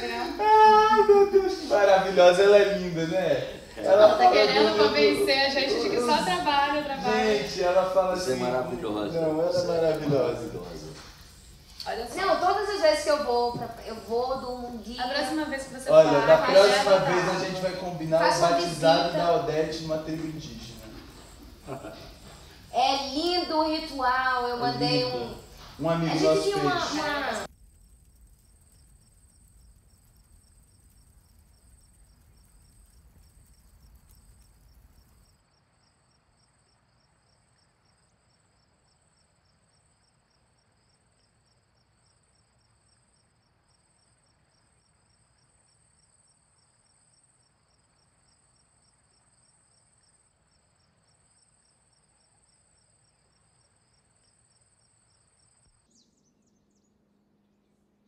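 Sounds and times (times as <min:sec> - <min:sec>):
night insects chirring: 0:00.0 - 0:58.0.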